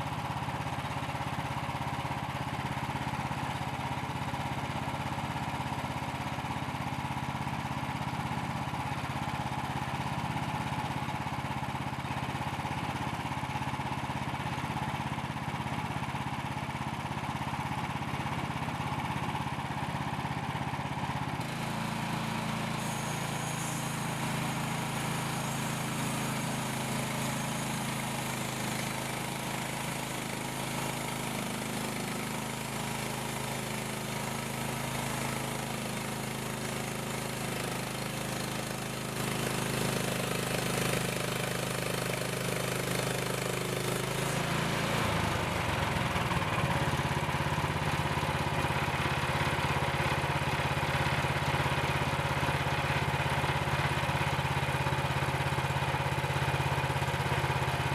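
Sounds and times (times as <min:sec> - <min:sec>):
small petrol engine running: 0:00.0 - 0:57.9.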